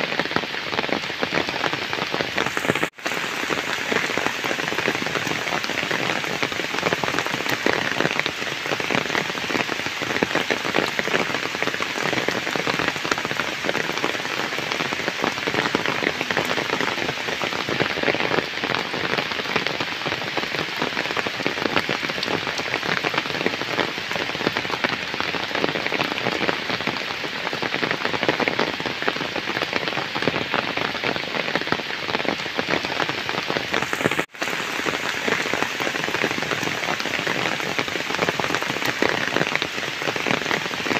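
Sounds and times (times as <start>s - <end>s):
heavy rain on puddles: 0.0s - 40.9s.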